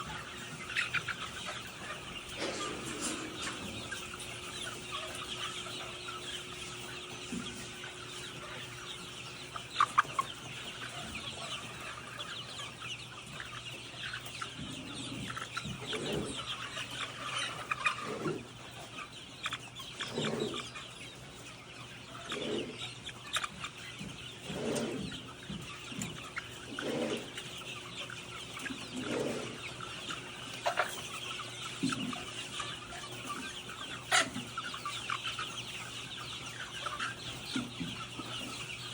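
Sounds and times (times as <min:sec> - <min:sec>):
chickens chirping and clucking: 0:00.0 - 0:38.9.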